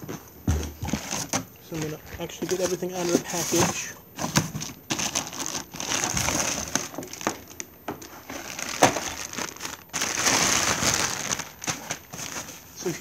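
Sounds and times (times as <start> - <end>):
plastic bag rustling and crinkling: 0.8 - 13.0.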